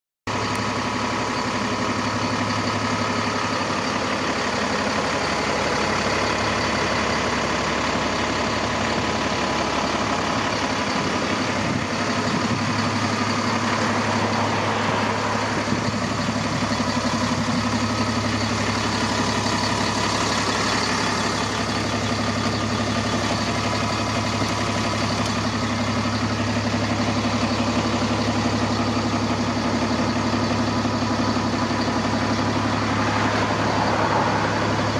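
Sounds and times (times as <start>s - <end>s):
truck diesel engine idling: 0.3s - 34.9s.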